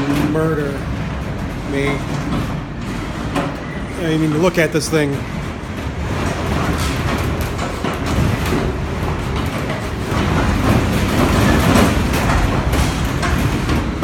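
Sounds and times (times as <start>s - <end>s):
greenhouse frame rattling and knocking: 0.0s - 14.0s
strong wind rushing: 0.0s - 14.0s.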